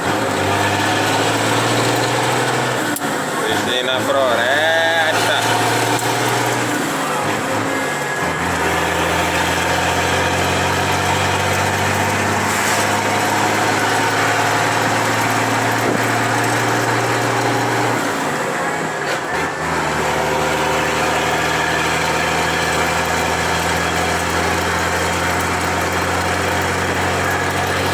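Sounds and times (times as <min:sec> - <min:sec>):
vehicle engine idling: 0:00.0 - 0:27.9.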